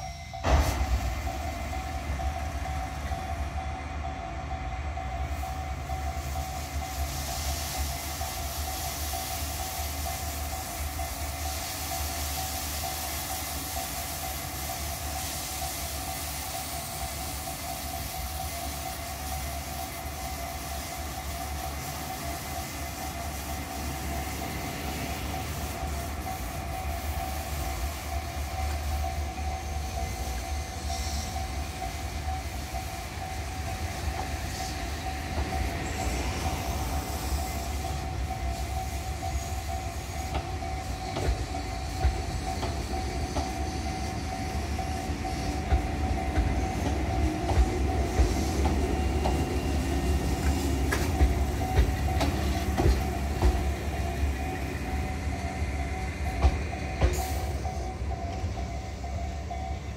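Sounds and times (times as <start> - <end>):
train wheels clicking over rail joints: 5.0 - 59.9.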